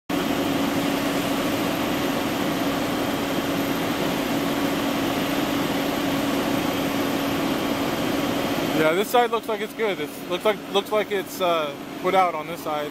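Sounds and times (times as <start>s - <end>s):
diesel engines and pumps humming: 0.1s - 12.9s.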